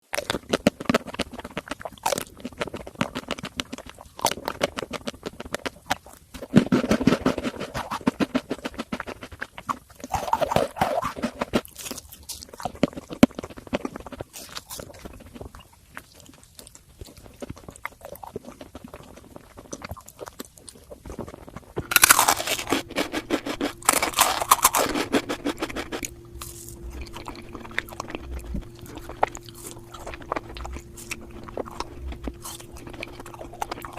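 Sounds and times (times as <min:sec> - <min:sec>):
crunchy chewing of sweets: 0:00.0 - 0:33.9
faint steady hum: 0:00.0 - 0:33.9.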